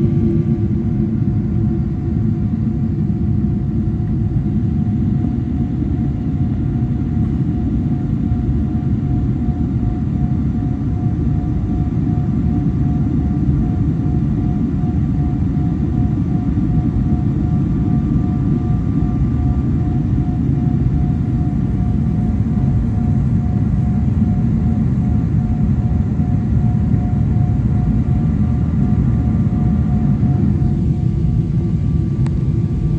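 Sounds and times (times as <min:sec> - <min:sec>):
airliner cabin low rumble: 0:00.0 - 0:32.9
faint even whine: 0:00.0 - 0:32.9.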